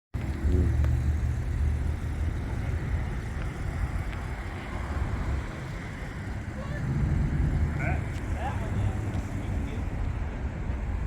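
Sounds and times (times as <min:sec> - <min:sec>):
car engine running: 0:00.2 - 0:09.8.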